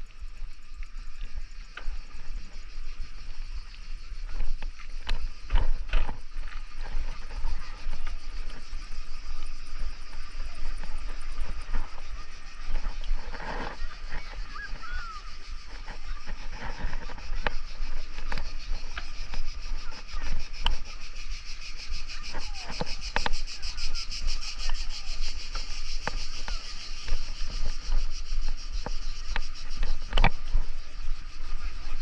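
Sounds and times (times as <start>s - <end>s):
cicadas buzzing: 0.0s - 32.0s.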